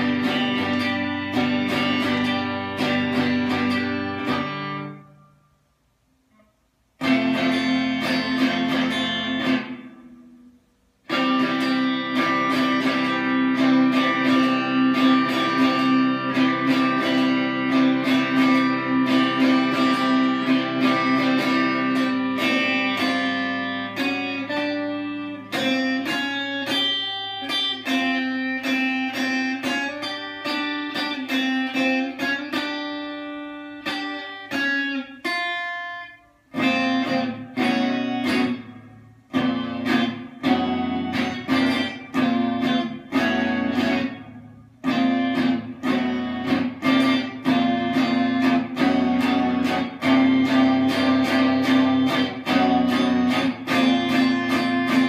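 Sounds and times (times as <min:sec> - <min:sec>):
electric guitar strumming: 0:00.0 - 0:05.6, 0:06.2 - 0:55.0.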